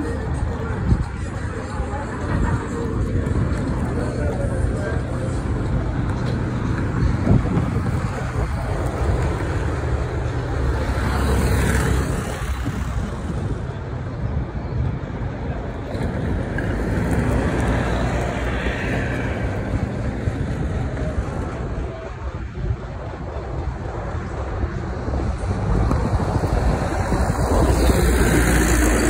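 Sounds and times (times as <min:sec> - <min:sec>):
cars driving past: 0:02.2 - 0:14.0, 0:14.8 - 0:22.0, 0:23.3 - 0:29.0.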